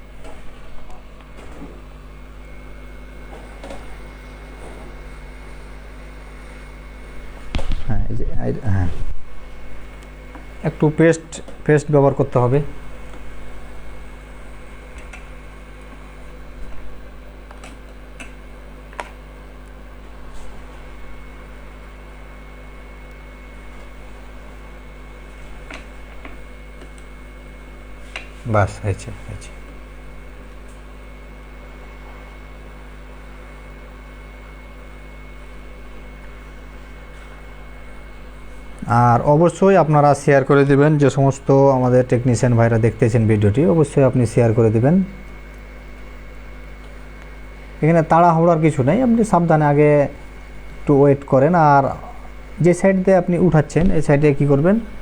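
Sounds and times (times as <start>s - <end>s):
electrical hum: 0.0s - 55.0s
thin steady whine: 0.0s - 55.0s.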